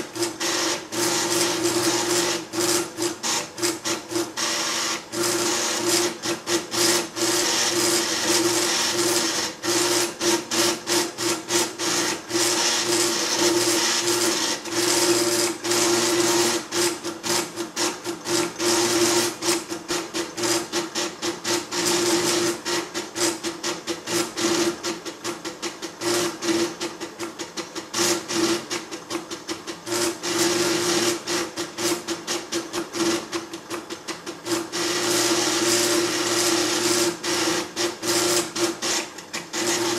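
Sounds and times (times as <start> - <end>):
plotter stepping motors buzzing: 0.0 - 24.9, 29.8 - 33.4, 34.4 - 39.9.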